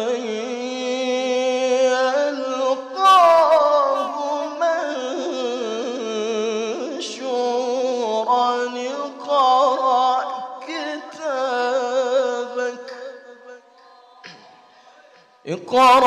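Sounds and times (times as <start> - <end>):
man reciting melodically: 0.0 - 13.7, 15.4 - 16.0.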